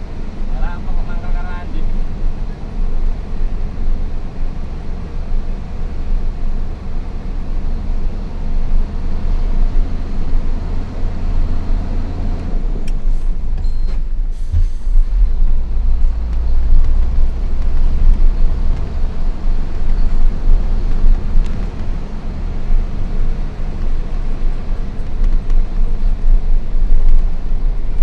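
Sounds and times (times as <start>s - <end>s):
road noise: 0.0s - 28.0s
truck diesel engine rumbling: 0.0s - 28.0s.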